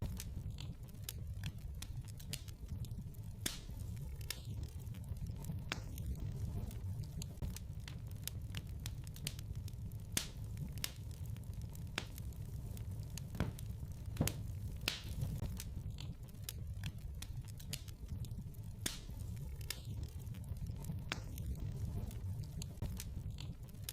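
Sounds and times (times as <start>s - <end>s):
fire crackling and popping: 0.0s - 23.9s
flames rumbling: 0.0s - 23.9s.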